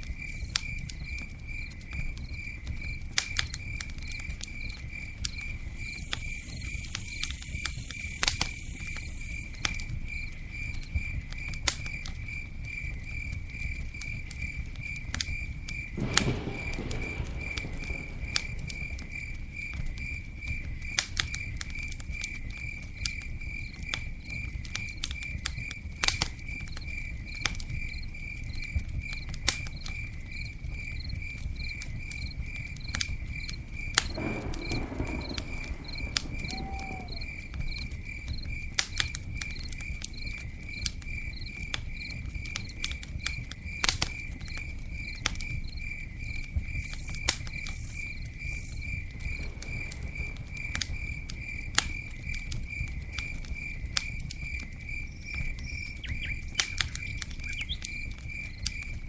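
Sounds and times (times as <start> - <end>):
campfire crackling: 0.0 - 59.0
cricket chirping: 0.0 - 59.0.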